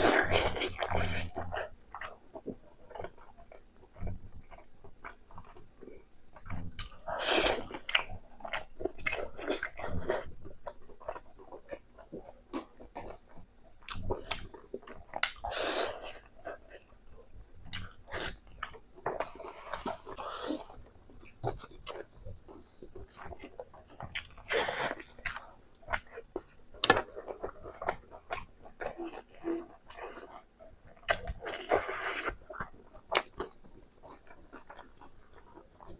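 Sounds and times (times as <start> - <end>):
person chewing with wet smacks: 0.0 - 35.9.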